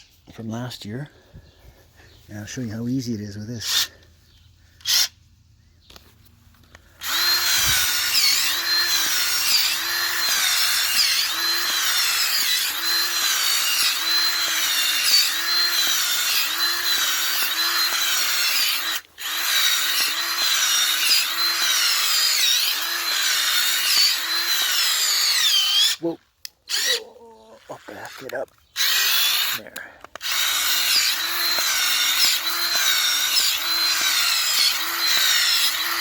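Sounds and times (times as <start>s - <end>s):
power drill auger in soil: 0.0s - 5.2s, 5.8s - 36.0s.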